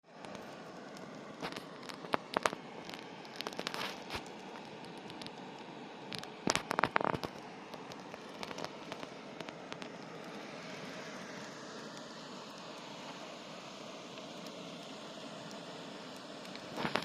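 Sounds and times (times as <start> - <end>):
steady hiss: 0.0 - 17.0
campfire crackling and popping: 0.1 - 17.0.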